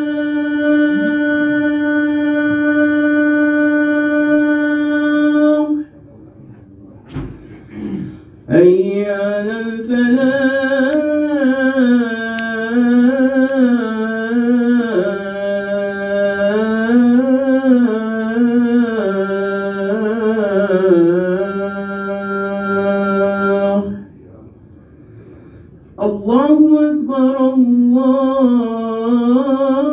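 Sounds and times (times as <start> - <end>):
man chanting call to prayer: 0.0 - 24.4, 26.0 - 29.9.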